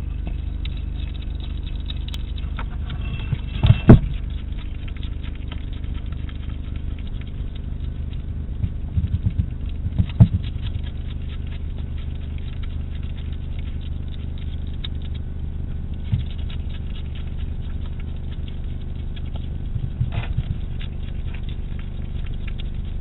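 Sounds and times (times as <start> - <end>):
hedgehog chewing and smacking: 0.0 - 23.0.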